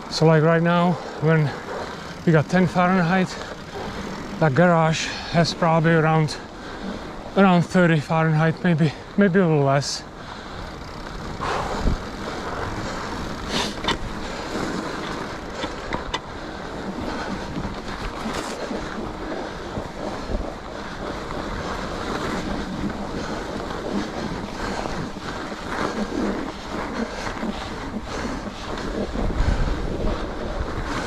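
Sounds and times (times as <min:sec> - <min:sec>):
tyres rushing on snow: 0:00.0 - 0:31.0
wind on microphone: 0:00.0 - 0:31.0.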